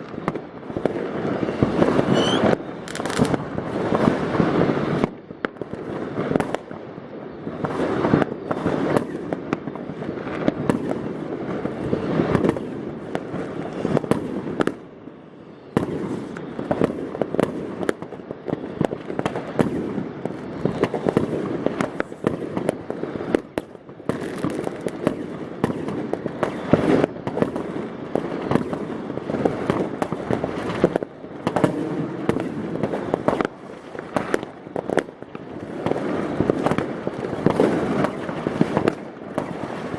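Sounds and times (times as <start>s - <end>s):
fireworks and firecrackers banging: 0.0s - 39.9s.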